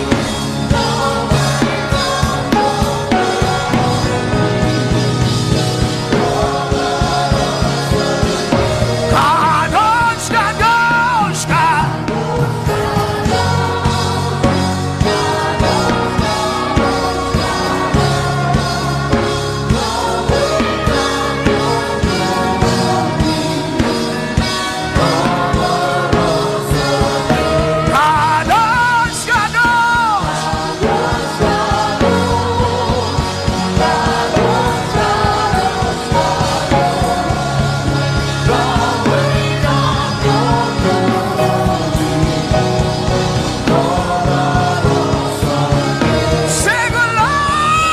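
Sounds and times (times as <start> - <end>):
gospel band accompaniment: 0.0 - 47.9.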